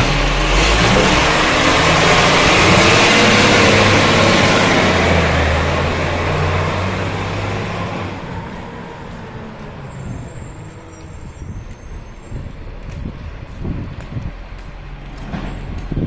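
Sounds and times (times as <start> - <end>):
garbage truck passing: 0.0 - 16.0
low traffic rumble: 0.0 - 16.0.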